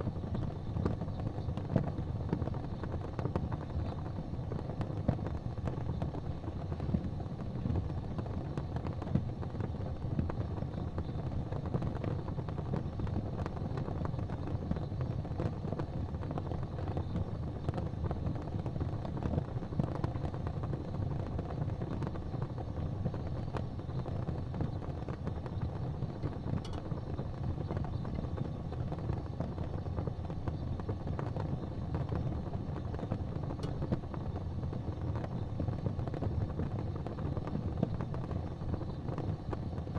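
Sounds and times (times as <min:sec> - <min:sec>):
fire crackling: 0:00.0 - 0:39.9
fire flames rumbling: 0:00.0 - 0:39.9
wood fire popping: 0:00.0 - 0:39.9.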